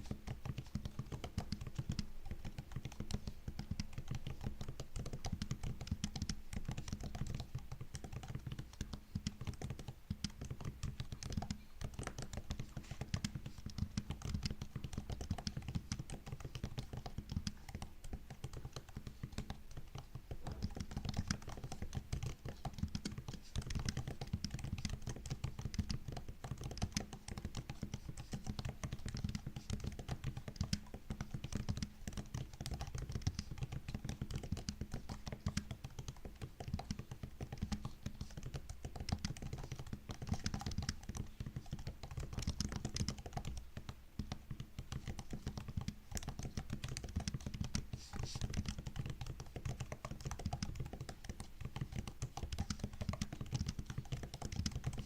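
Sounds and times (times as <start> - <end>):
laptop keyboard typing: 0.0 - 55.0.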